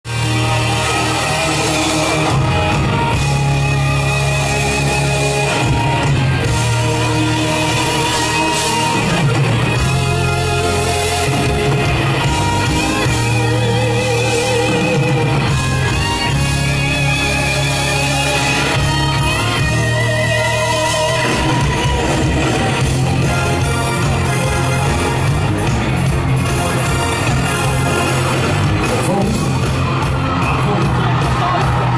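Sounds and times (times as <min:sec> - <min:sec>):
electric guitar: 0:00.0 - 0:31.9
keyboards: 0:00.0 - 0:31.9
live band playing pop-rock: 0:00.0 - 0:31.9.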